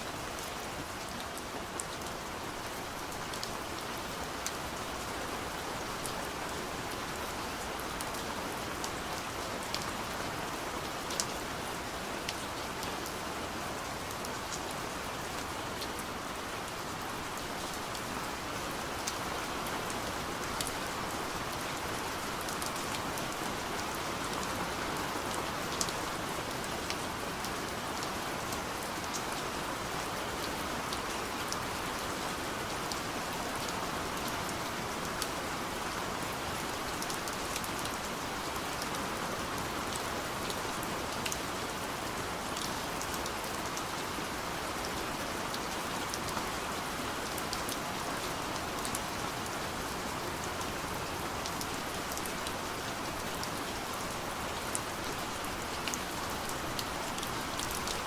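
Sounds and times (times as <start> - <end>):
gentle rain on window: 0.0 - 58.0.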